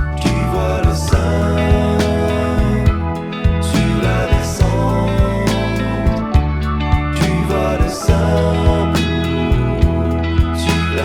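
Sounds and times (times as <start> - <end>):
band music: 0.0 - 11.0
sustained bass notes: 0.0 - 11.0.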